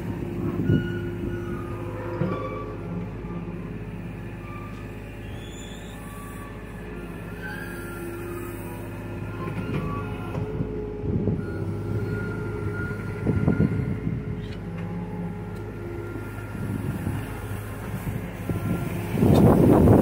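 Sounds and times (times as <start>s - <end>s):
diesel engine running: 0.0s - 20.0s
hydraulic whine: 0.0s - 20.0s.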